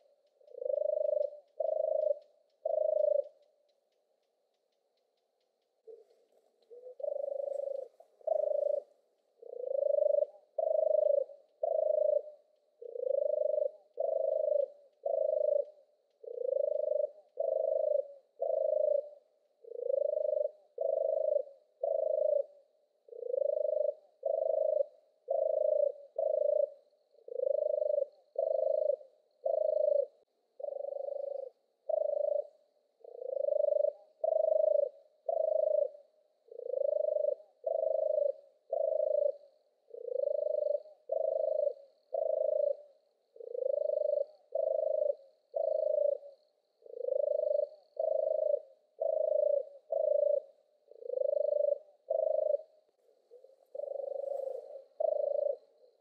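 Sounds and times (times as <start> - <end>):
turtle dove purring song: 0.0 - 56.0.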